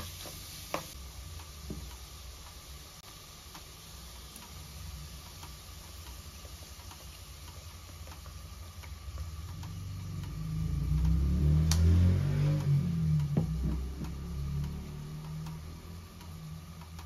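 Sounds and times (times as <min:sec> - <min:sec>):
ticks and crackles in pot: 0:00.0 - 0:17.0.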